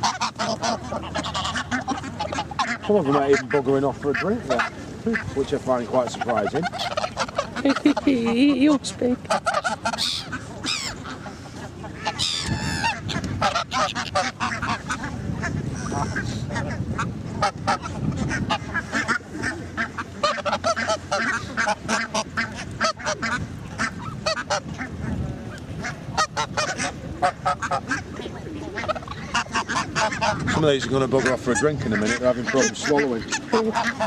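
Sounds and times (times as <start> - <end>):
geese and ducks honking: 0.0 - 34.0.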